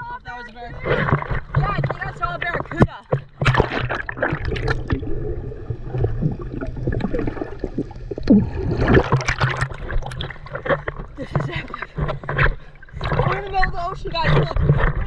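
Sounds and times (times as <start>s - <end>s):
water splashing and gurgling: 0.0s - 15.0s.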